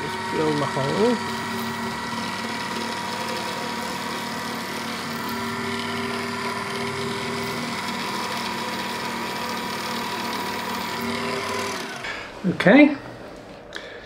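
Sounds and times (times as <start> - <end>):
bench drill whining: 0.0 - 14.0.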